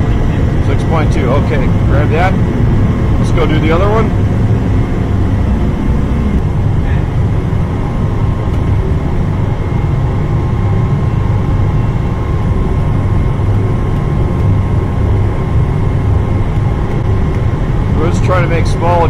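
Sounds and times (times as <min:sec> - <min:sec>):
blower whine: 0:00.0 - 0:19.0
gas burners rumbling: 0:00.0 - 0:19.0.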